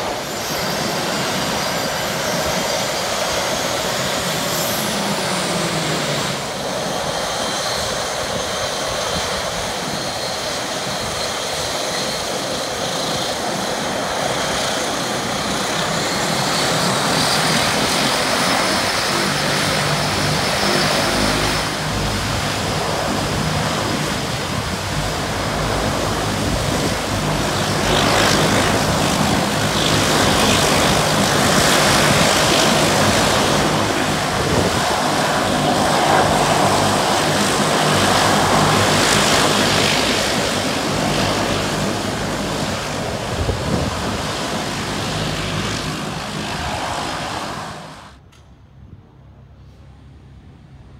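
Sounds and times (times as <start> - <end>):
turboprop engines running: 0.0 - 50.9.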